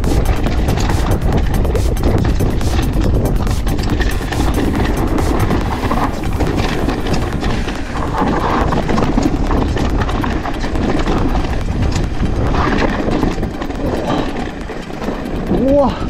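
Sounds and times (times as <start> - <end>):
bike knocking and rattling: 0.0 - 16.0
bike tyres on dirt and gravel: 0.0 - 16.0
wind rumble on microphone: 0.0 - 16.0.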